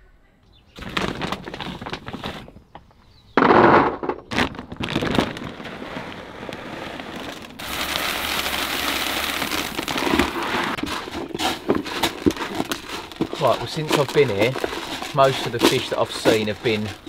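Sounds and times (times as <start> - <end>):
pellets pouring into plastic bucket: 0.8 - 2.5, 4.3 - 17.0
plastic bag crinkling: 0.8 - 2.6, 4.2 - 17.0.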